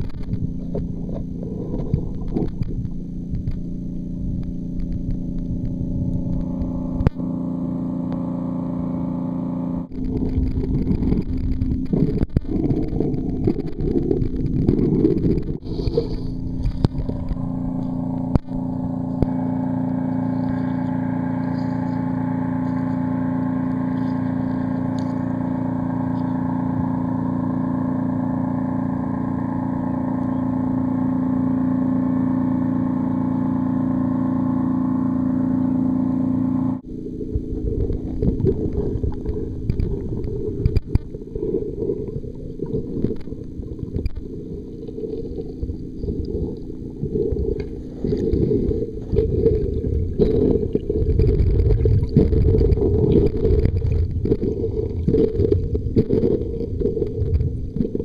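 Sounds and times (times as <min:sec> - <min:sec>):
droning hum: 0:00.0 - 0:58.0
muffled underwater rumbling: 0:00.0 - 0:58.0.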